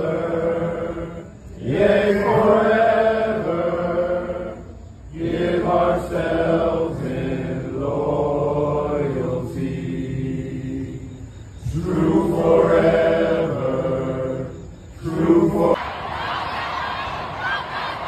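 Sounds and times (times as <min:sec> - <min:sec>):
crowd singing a hymn: 0:00.0 - 0:18.0.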